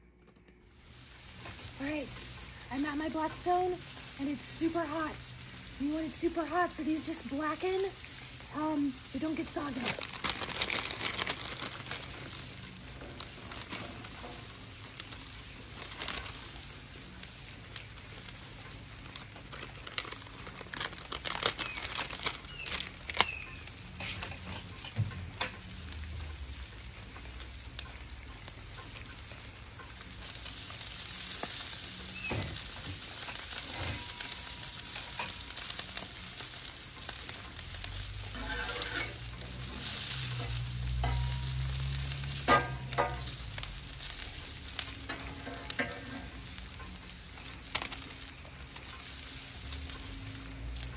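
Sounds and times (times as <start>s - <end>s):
peppers sizzling on griddle: 0.6s - 50.9s.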